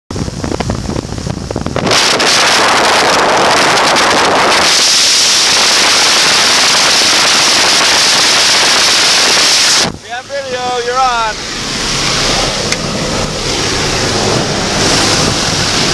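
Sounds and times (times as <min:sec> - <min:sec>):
aircraft engine rumble: 0:00.1 - 0:15.9
wind buffeting microphone: 0:00.1 - 0:15.9.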